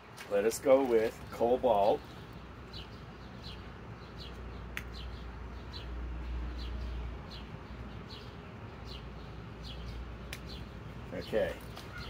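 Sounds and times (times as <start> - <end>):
small bird chirping: 1.1 - 12.0.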